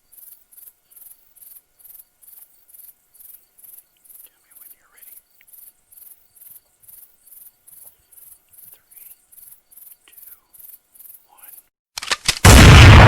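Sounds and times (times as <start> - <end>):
insect chirping: 0.0 - 11.7.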